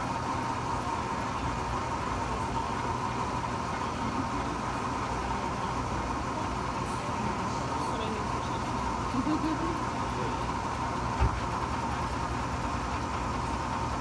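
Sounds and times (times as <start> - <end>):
laser engraving machine hum: 0.0 - 14.0.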